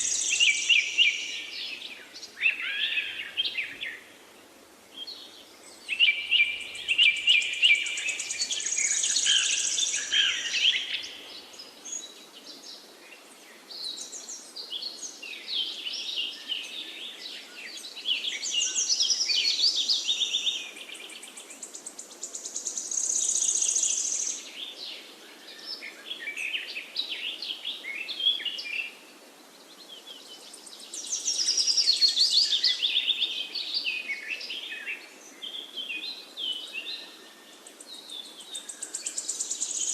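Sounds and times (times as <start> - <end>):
faint steady hiss: 0.0 - 39.9
forest birds singing: 0.0 - 39.9.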